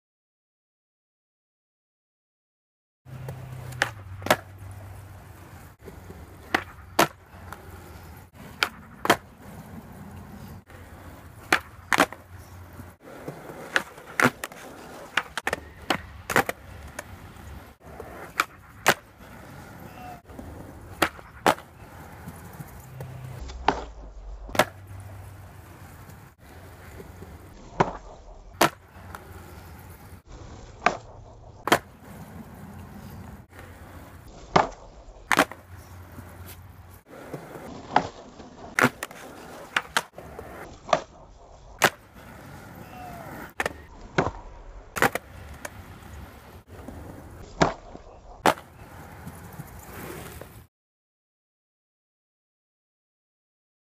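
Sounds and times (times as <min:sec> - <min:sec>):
skateboard clacks: 0:03.1 - 0:50.6
skateboard wheels rolling on concrete: 0:03.1 - 0:50.7.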